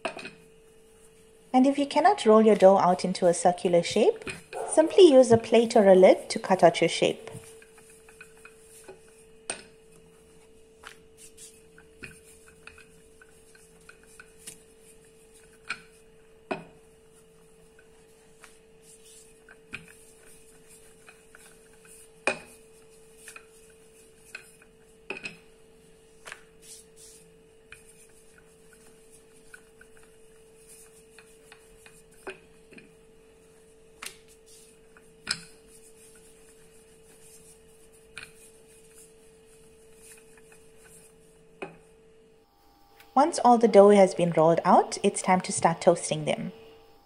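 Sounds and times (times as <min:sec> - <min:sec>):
rolling pin rubbing dough: 0:00.0 - 0:42.1.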